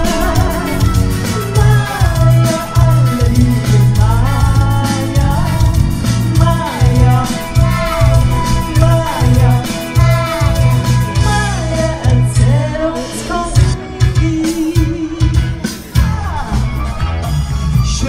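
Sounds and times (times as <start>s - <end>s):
person singing into microphone: 0.0s - 16.9s
backing music with pulsing bass: 0.0s - 18.0s.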